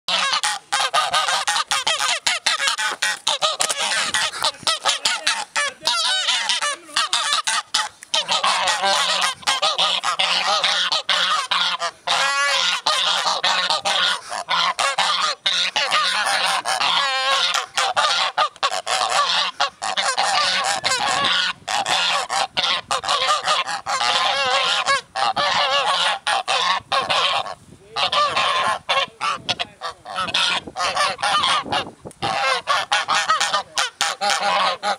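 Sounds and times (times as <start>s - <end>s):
geese honking: 0.1s - 34.9s.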